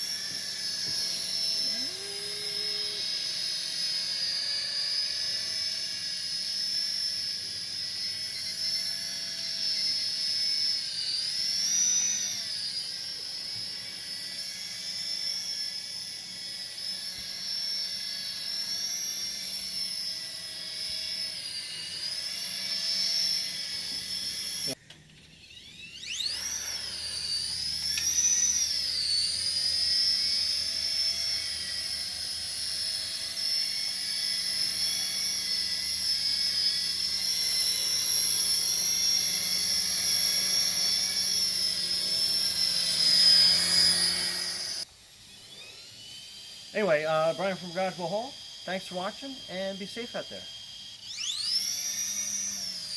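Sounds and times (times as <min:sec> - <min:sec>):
toy helicopter motor whine: 0:00.0 - 0:52.9.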